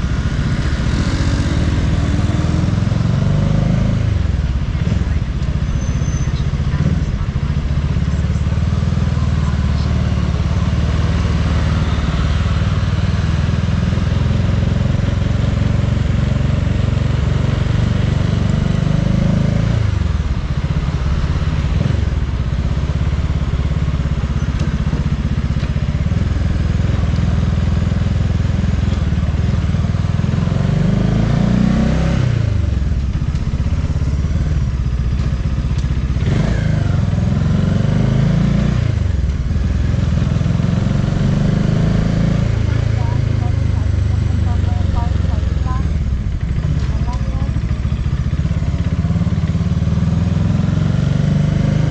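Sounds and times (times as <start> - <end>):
motorcycle engine accelerating: 0.0 - 51.9
road and traffic noise: 0.0 - 51.9.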